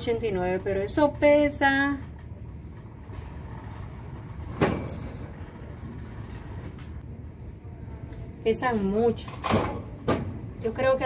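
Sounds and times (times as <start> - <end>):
low store background rumble: 0.0 - 11.0.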